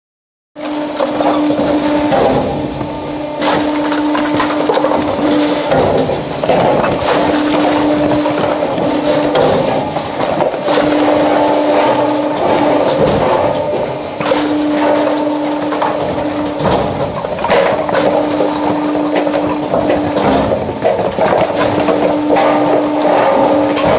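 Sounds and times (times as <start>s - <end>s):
machine hum: 0.6s - 23.9s
wood cracking and splintering: 0.7s - 23.9s.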